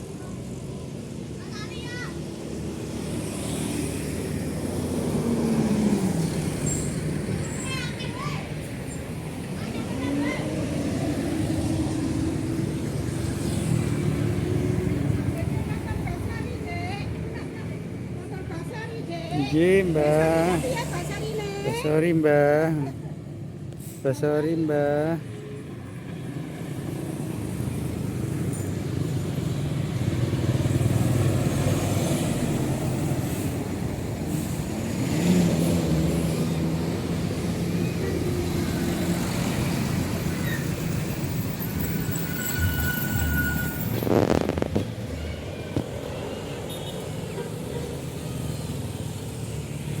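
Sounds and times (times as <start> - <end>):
passing vehicles: 0.0 - 50.0.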